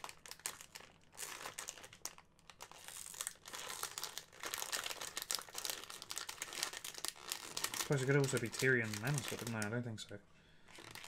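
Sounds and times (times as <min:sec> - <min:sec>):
foil bag crinkling: 0:00.0 - 0:09.8, 0:10.6 - 0:11.0.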